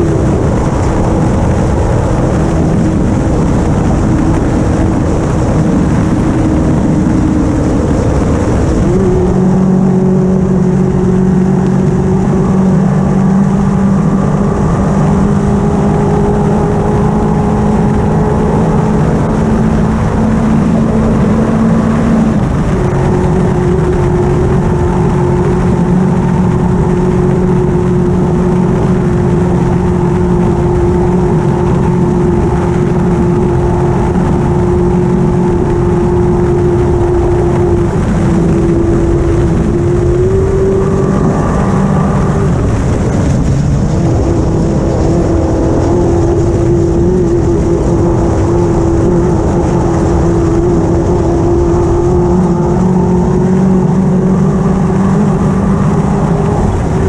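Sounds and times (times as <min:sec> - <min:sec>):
buggy engine at high revs: 0:00.0 - 0:57.0
wind and dirt-track noise: 0:00.0 - 0:57.0.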